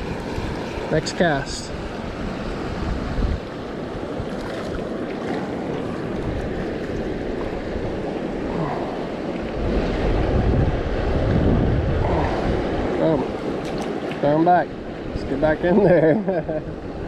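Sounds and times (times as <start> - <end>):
wind buffeting microphone: 0.0 - 14.1
creek water rushing: 0.0 - 17.0.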